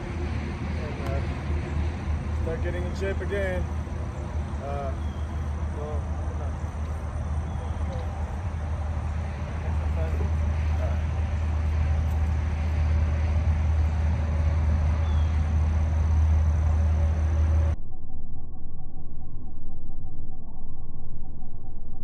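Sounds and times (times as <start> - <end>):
highway traffic rumble: 0.0 - 17.8
dull muffled sound: 0.0 - 22.0.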